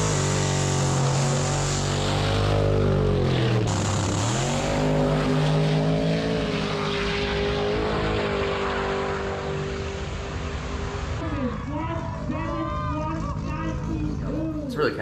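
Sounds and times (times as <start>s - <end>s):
drag car engine revving: 0.0s - 14.7s.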